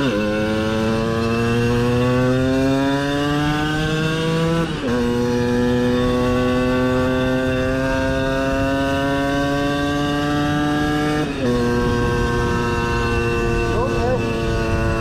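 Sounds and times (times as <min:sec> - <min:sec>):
moped engine accelerating: 0:00.0 - 0:15.0.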